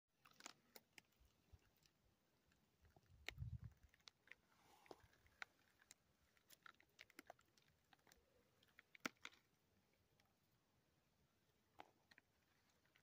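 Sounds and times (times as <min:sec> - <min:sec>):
faint clicks and crackles: 0:00.1 - 0:10.5, 0:11.3 - 0:13.0.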